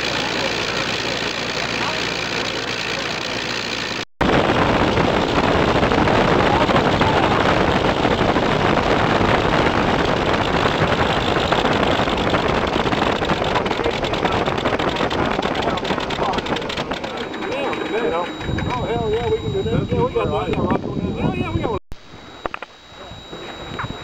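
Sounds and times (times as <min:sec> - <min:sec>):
rotary aircraft engine running: 0:00.0 - 0:24.0.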